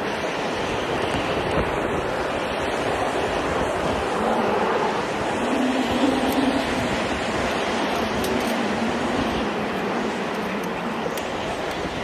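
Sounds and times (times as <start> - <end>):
strong storm wind blowing: 0.0 - 12.0
wind buffeting microphone: 0.0 - 12.0.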